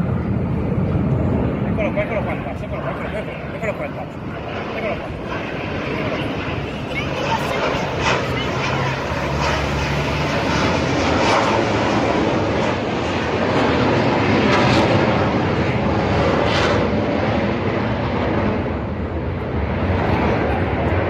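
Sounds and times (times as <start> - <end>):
jets flying past: 0.0 - 21.0.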